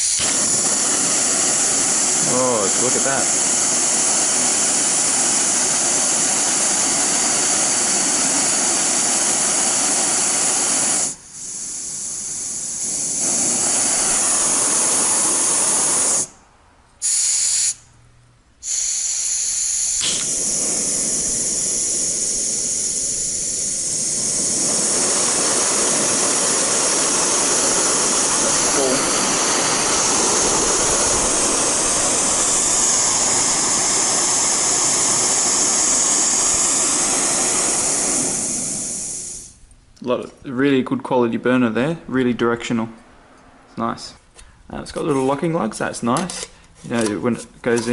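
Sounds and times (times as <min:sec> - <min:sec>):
gas burner hissing: 0:00.0 - 0:16.4, 0:17.0 - 0:17.8, 0:18.6 - 0:39.7, 0:44.4 - 0:47.9.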